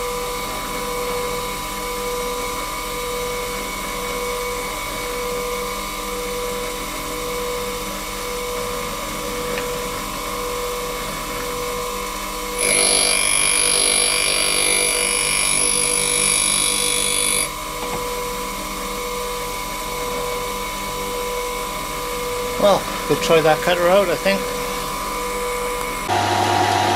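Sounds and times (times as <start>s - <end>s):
bench grinder humming: 0.0s - 26.9s
metal grinding whine: 0.0s - 26.9s.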